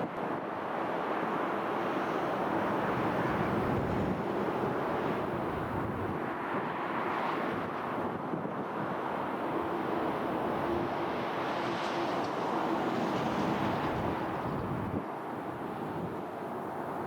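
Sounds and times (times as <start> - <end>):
airliner engines rushing: 0.0 - 17.0
wind on microphone: 2.4 - 17.0.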